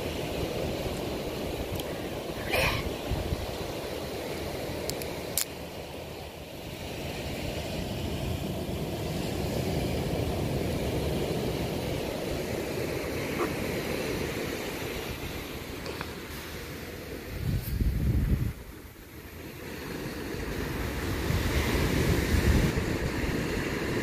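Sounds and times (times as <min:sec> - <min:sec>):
sea surf: 0:00.0 - 0:24.0
wind: 0:00.0 - 0:24.0.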